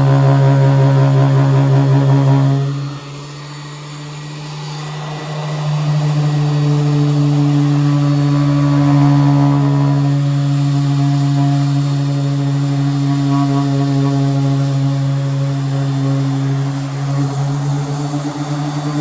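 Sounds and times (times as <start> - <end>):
power sander grinding metal: 0.0 - 19.0.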